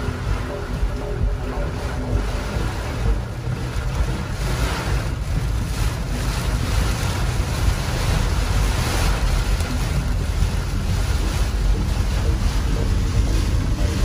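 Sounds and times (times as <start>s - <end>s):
rain and wind beating on a car: 0.0s - 14.0s.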